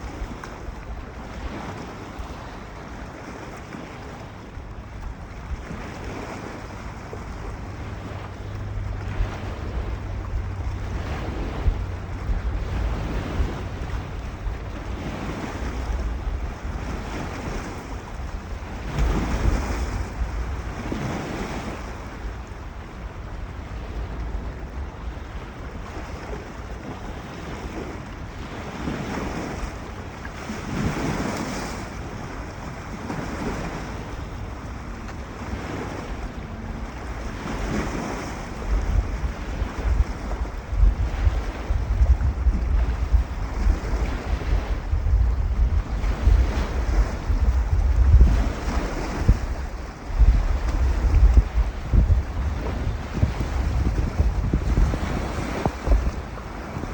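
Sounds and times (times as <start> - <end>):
lake waves washing ashore: 0.0 - 56.9
wind buffeting microphone: 0.0 - 56.9.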